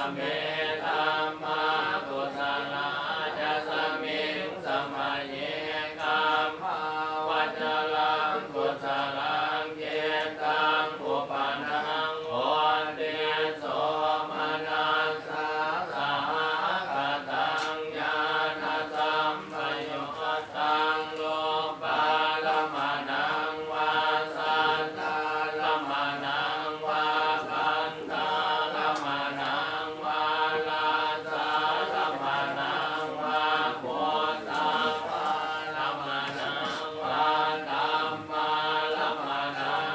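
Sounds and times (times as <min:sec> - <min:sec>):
group chanting in unison: 0:00.0 - 0:39.9.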